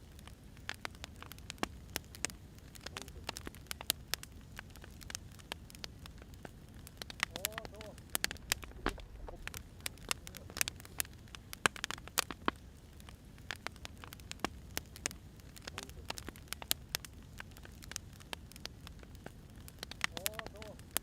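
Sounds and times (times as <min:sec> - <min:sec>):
faint low hiss: 0:00.0 - 0:21.0
firewood crackling and popping: 0:00.0 - 0:21.0.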